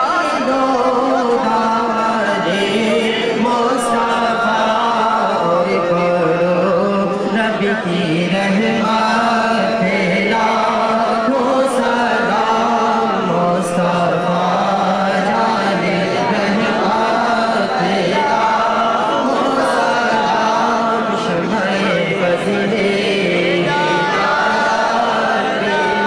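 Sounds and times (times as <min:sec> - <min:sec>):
men chanting melodic lines: 0:00.0 - 0:26.0.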